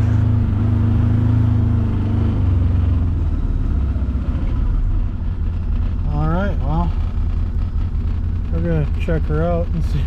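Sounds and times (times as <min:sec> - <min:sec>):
utility vehicle engine running: 0:00.0 - 0:10.0.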